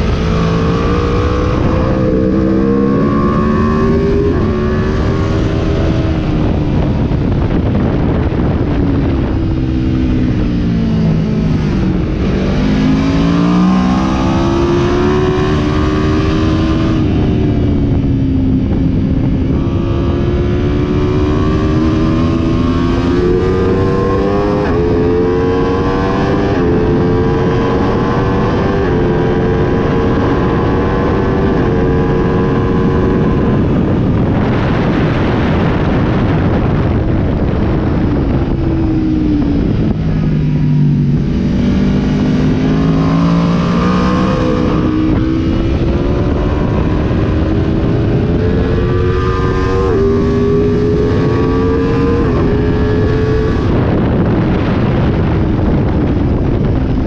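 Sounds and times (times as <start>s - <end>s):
motorcycle engine through gears: 0.0s - 57.0s
wind rushing: 0.0s - 57.0s.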